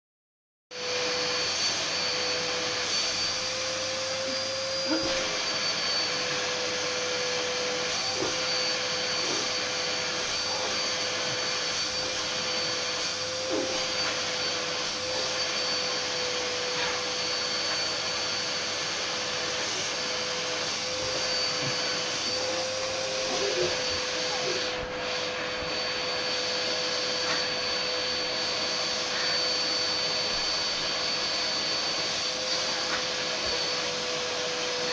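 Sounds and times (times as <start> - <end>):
vacuum cleaner running: 0.7 - 34.9.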